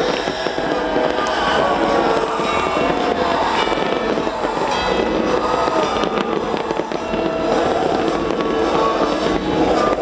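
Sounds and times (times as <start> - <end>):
fireworks crackling and bursting: 0.0 - 10.0
music playing: 0.0 - 10.0.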